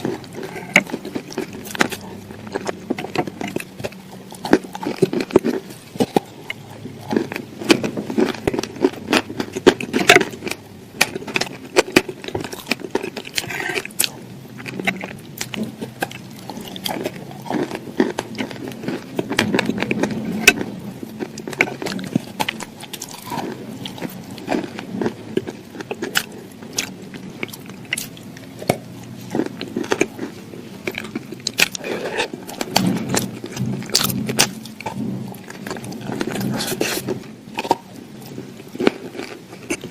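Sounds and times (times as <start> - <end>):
crunchy food being chewed: 0.0 - 39.9.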